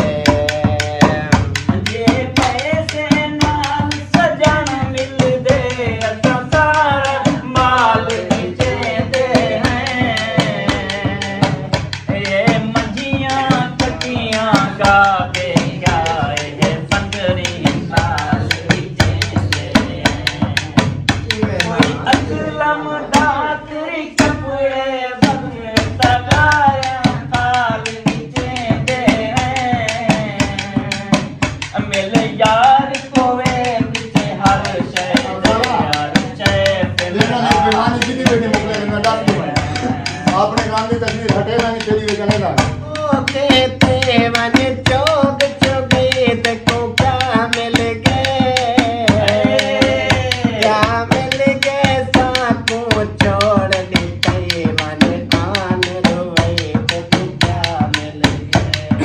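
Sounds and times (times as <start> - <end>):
hand drum beaten fast: 0.0 - 59.0
man singing into a microphone: 0.0 - 59.0.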